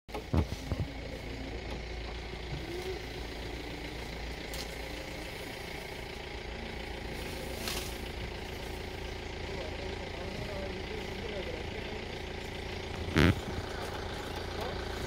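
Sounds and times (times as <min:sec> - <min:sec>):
vehicle engine idling: 0:00.1 - 0:15.0.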